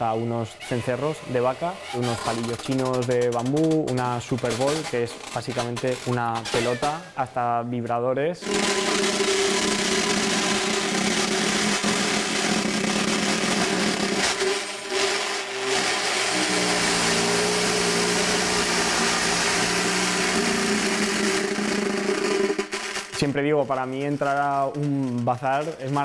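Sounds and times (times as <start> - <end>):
buzzing percussion drone: 0.0 - 7.3, 8.4 - 26.0.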